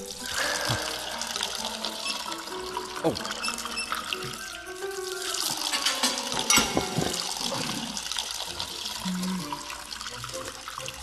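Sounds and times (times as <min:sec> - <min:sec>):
juice pouring into glass jar: 0:00.0 - 0:11.0.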